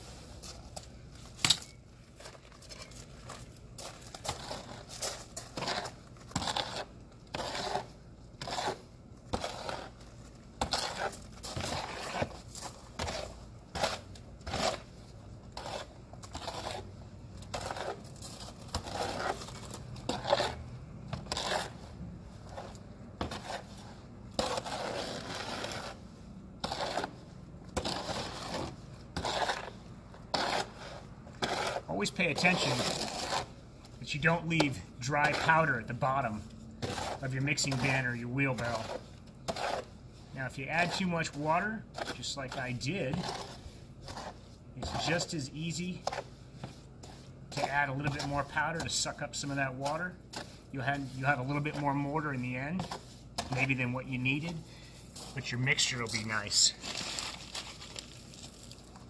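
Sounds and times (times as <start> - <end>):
tool scraping and churning mortar: 0.0 - 59.0.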